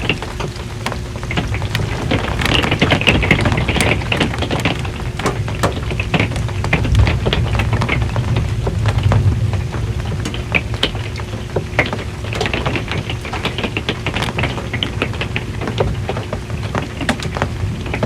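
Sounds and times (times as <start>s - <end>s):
low steady rumble: 0.0s - 18.0s
raindrops tapping on metal roof: 0.0s - 18.0s.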